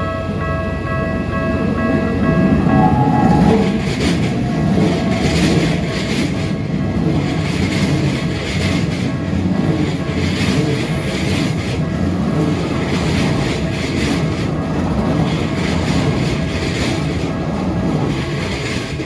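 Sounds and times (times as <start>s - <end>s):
crossing bell ringing: 0.0s - 17.1s
train wheels rumbling on rails: 0.0s - 19.0s.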